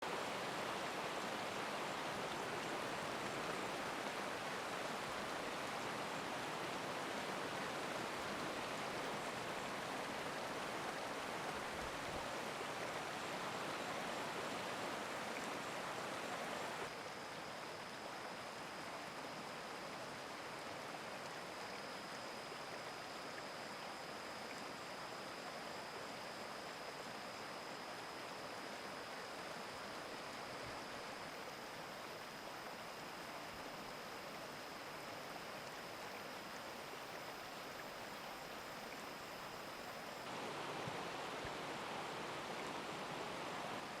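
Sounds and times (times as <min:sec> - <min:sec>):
stream rushing: 0:00.0 - 0:44.0.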